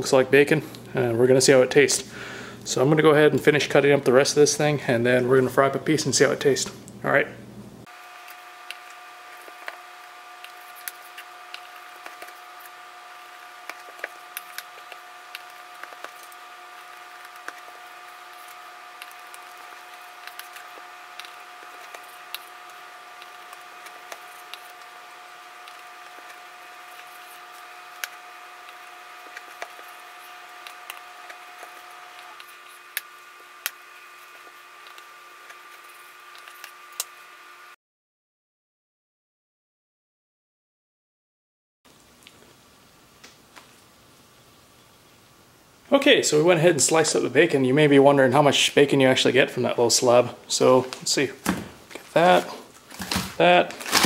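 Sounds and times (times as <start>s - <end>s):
electrical hum: 0.0s - 37.8s, 41.9s - 54.0s.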